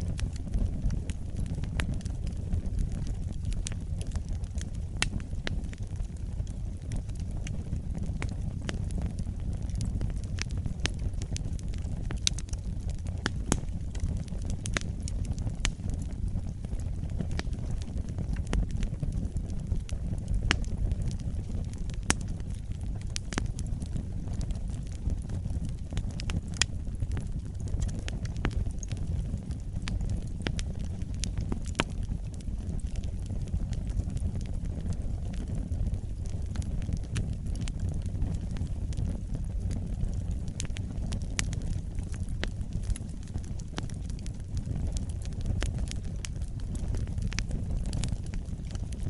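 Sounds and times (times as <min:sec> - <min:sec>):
burning logs crackling and popping: 0:00.0 - 0:49.0
fire flames rumbling: 0:00.0 - 0:49.0.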